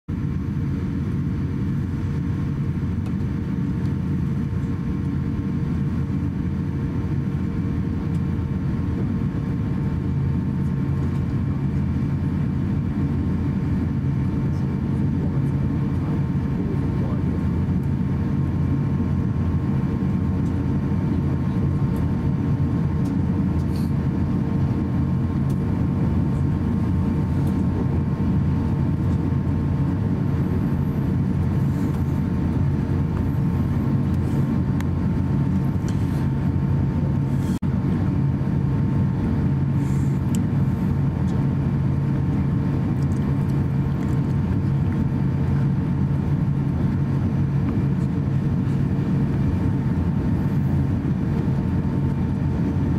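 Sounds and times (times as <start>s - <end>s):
aircraft cabin rumble: 0.1s - 52.9s.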